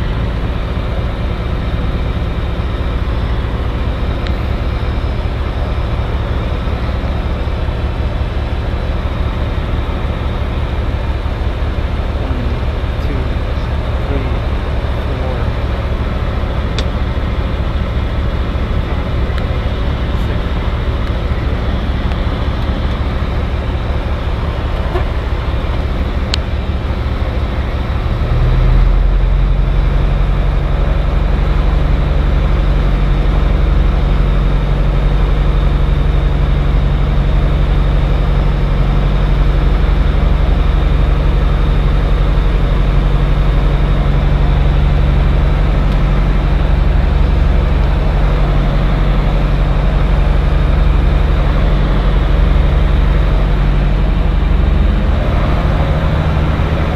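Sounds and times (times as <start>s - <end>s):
aircraft engine and propeller: 0.0s - 56.9s.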